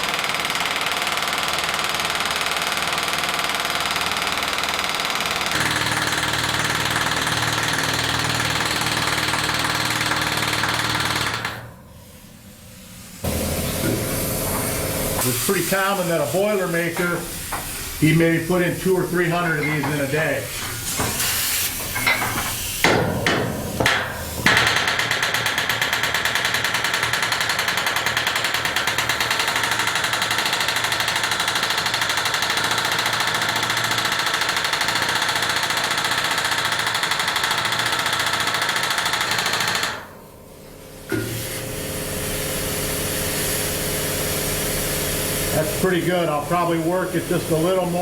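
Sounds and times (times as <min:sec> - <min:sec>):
pneumatic rivet gun hammering: 0:00.0 - 0:18.0, 0:19.3 - 0:40.3, 0:41.0 - 0:45.6.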